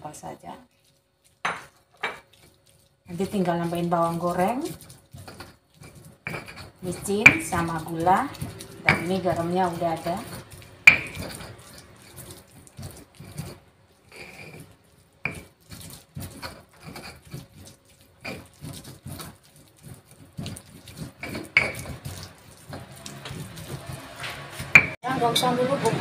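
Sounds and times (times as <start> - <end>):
stone pestle grinding in mortar: 1.3 - 25.0.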